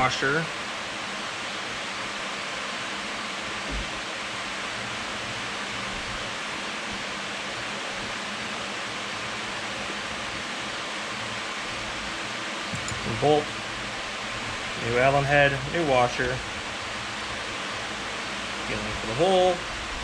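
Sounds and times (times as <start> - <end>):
electric fan blowing: 0.0 - 20.0.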